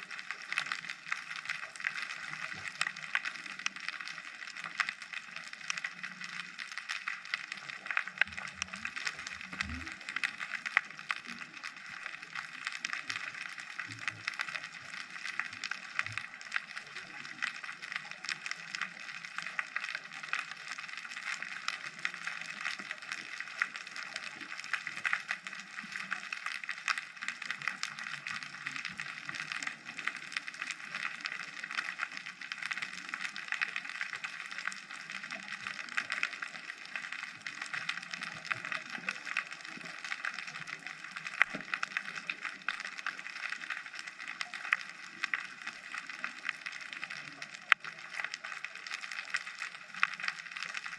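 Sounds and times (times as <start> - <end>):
underwater crackle of clicks: 0.0 - 50.9.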